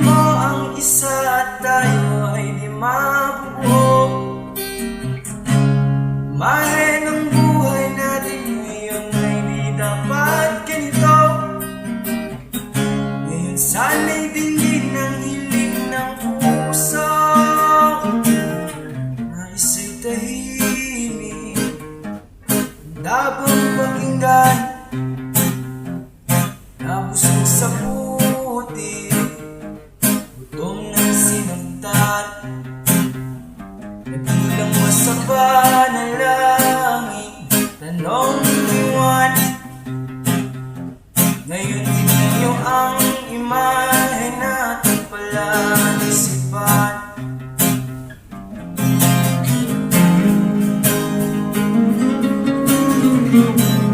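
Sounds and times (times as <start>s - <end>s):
acoustic guitar strumming: 0.0s - 53.9s.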